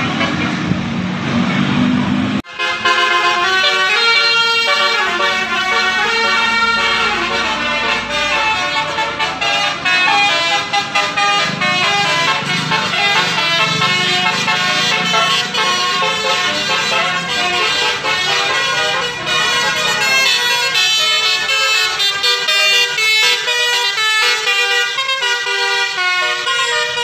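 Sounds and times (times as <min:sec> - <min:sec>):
musical bus horns playing tunes: 0:00.0 - 0:00.7, 0:01.6 - 0:27.0.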